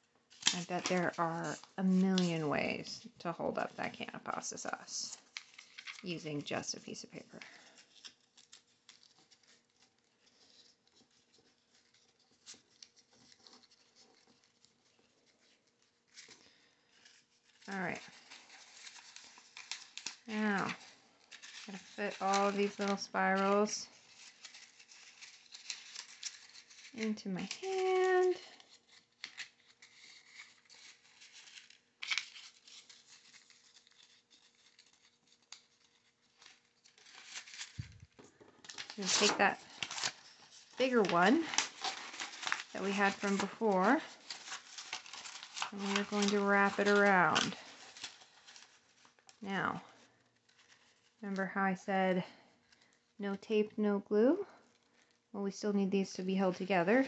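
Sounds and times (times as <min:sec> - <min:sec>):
paper rustling and scratching: 0:00.0 - 0:51.2
paper crinkle: 0:00.0 - 0:51.3, 0:52.2 - 0:53.2, 0:54.4 - 0:55.3.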